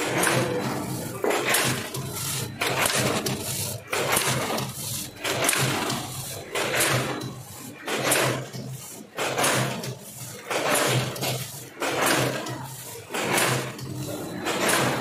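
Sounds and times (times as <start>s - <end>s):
packing machine noisy bursts: 0.0s - 15.0s.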